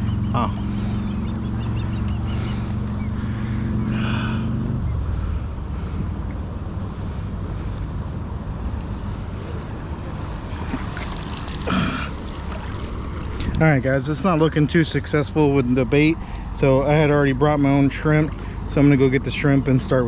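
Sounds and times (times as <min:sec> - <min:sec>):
low engine hum: 0:00.0 - 0:20.0
water noise: 0:00.0 - 0:20.0.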